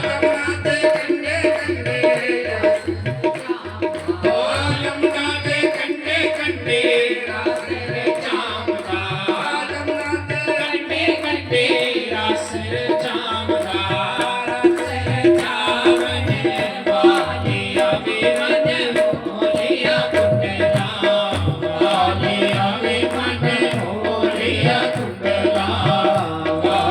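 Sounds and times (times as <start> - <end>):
hand drums: 0.0 - 26.9.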